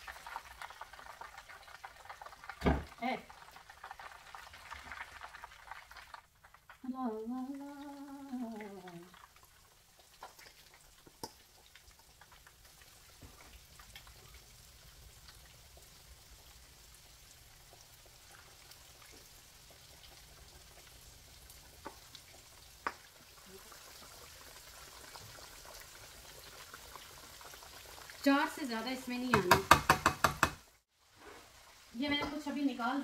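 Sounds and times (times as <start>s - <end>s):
oil crackling and popping: 0.0s - 32.7s.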